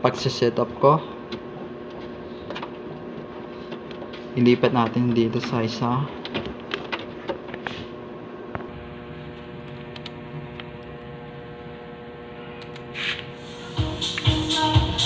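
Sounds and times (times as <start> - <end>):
speaker electrical hum: 0.0 - 15.0.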